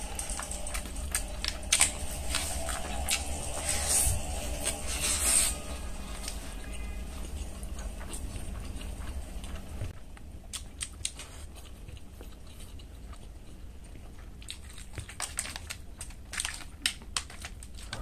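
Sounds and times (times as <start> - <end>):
chewing with crunching bites: 0.0 - 18.0.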